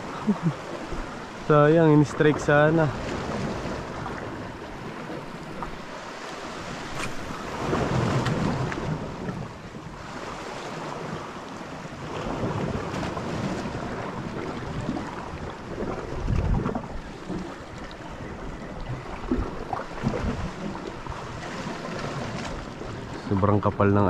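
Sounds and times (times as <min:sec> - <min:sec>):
wind buffeting microphone: 0:00.0 - 0:23.6
waves washing onto rocky shore: 0:00.0 - 0:24.0.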